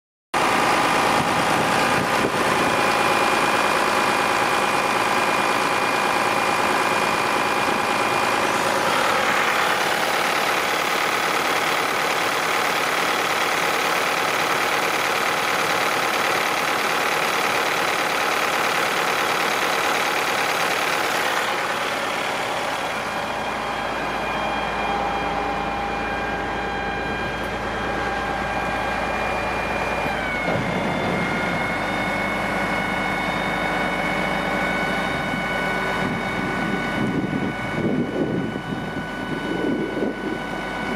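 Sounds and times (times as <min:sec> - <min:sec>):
diesel truck engine idling: 0:00.4 - 0:40.9.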